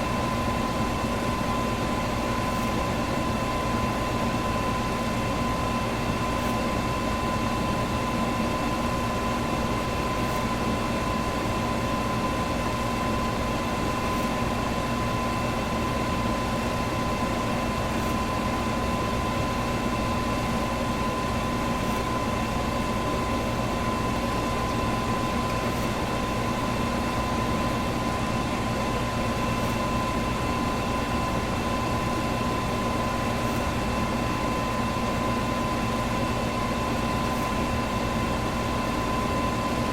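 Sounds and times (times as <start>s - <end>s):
fan motor whine: 0.0s - 39.9s.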